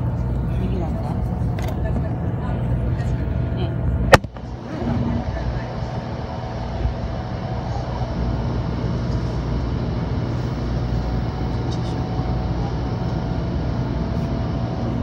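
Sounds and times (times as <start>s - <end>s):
train running low rumble: 0.0s - 15.0s.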